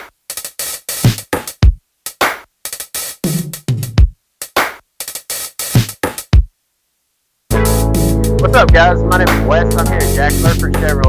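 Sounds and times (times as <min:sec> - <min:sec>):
electronic music with drum-machine beat: 0:00.0 - 0:06.5, 0:07.5 - 0:11.0.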